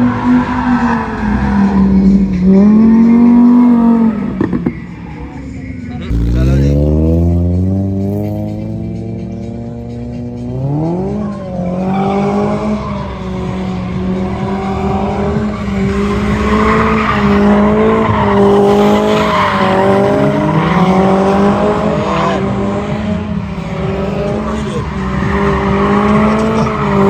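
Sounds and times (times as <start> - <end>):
car engine revving: 0.0 - 27.0
tyres squealing and skidding: 0.0 - 27.0.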